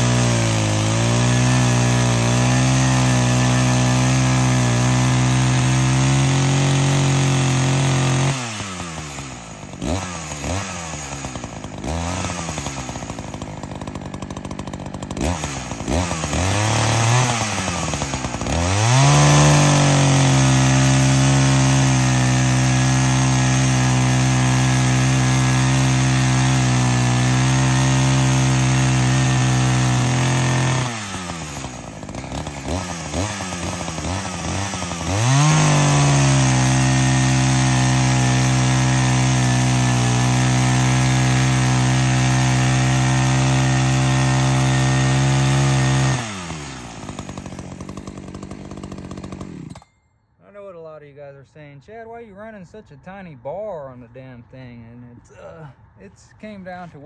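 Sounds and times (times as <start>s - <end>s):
chainsaw cutting logs: 0.0s - 50.0s.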